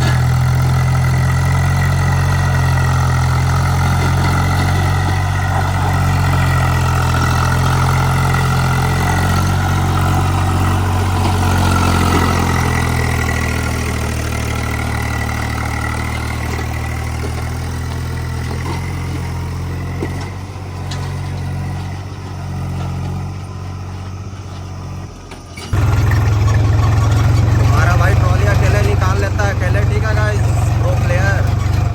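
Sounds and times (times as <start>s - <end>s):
diesel tractor engine droning: 0.0s - 31.9s.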